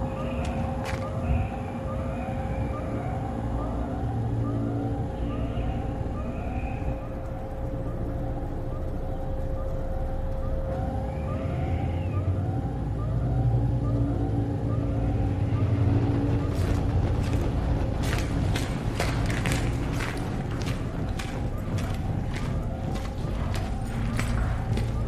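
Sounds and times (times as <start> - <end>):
fire engine siren whooping: 0.0 - 25.0
low engine rumble: 3.3 - 25.0.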